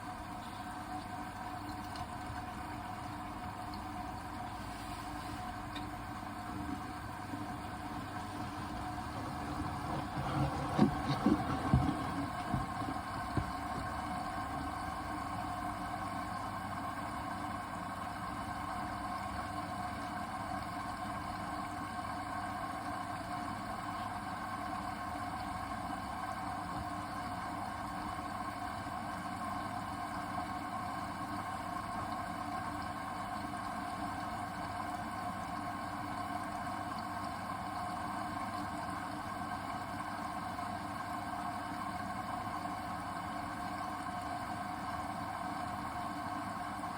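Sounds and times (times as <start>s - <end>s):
washing machine humming: 0.0s - 46.9s.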